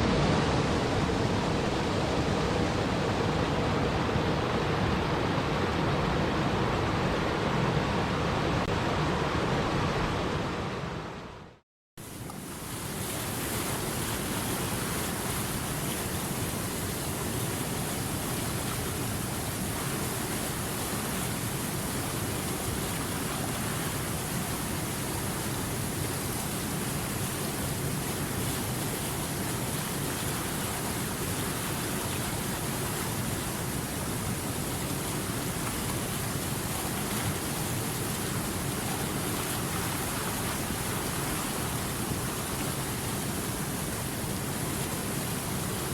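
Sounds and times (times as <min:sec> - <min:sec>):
river water flowing: 0:00.0 - 0:11.4, 0:12.0 - 0:45.9.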